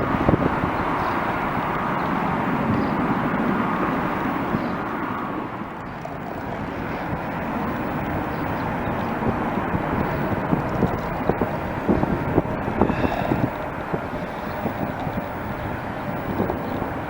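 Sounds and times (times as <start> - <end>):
jet aircraft engine: 0.0 - 17.0.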